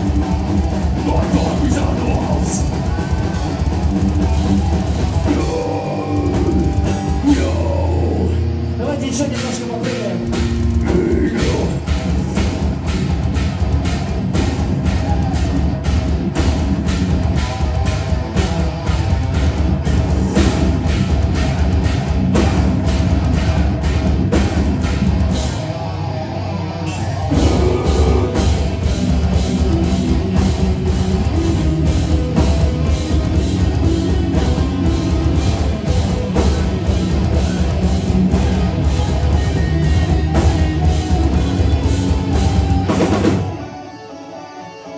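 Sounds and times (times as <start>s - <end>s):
pounding drum kit: 0.0s - 43.7s
heavy rock band playing live: 0.0s - 44.4s.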